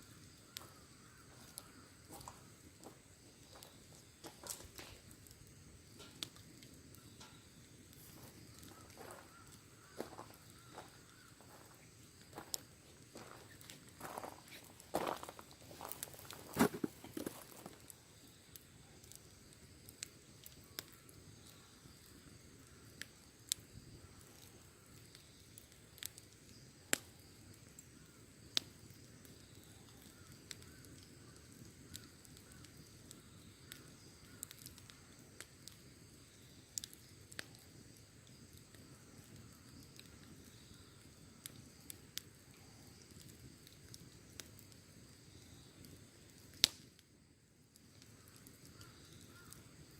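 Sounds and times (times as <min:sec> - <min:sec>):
campfire crackling and popping: 0:00.0 - 0:49.9
soft hiss of burning: 0:00.0 - 0:49.9.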